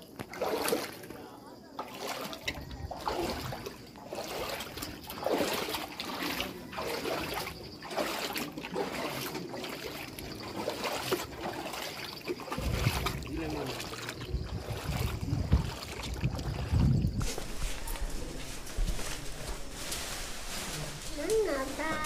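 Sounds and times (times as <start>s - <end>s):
floodwater trickling and splashing: 0.0s - 22.0s.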